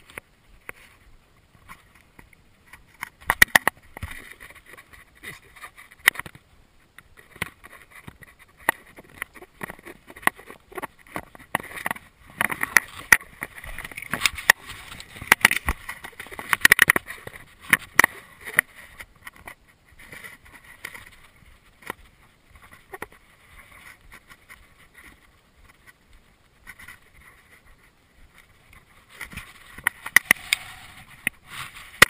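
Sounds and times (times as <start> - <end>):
hands handling fish and line: 0.0 - 32.0.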